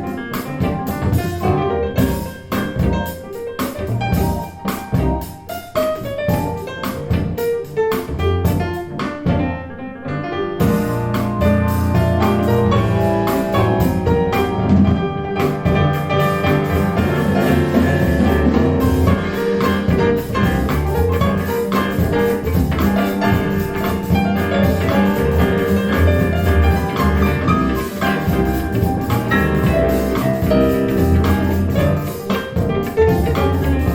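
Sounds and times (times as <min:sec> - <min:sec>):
piano and drums music: 0:00.0 - 0:33.9.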